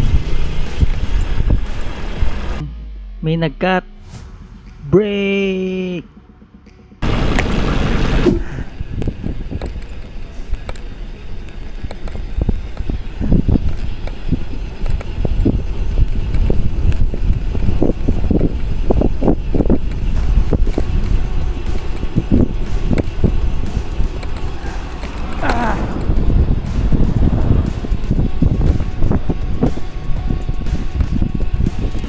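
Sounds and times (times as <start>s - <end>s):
wind buffeting microphone: 0.0s - 2.6s, 6.0s - 10.7s, 11.4s - 32.0s
low road rumble: 0.0s - 32.0s.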